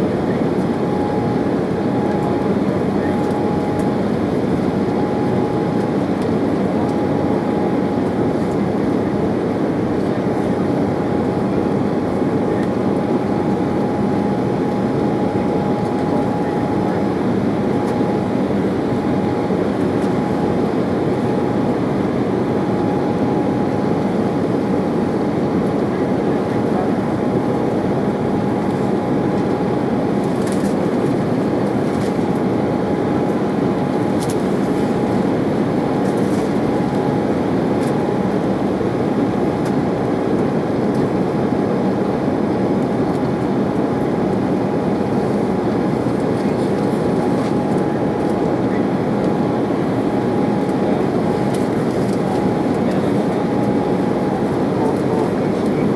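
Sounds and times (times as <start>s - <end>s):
airliner cabin airflow drone: 0.0s - 55.9s
faint engine whine: 0.0s - 55.9s.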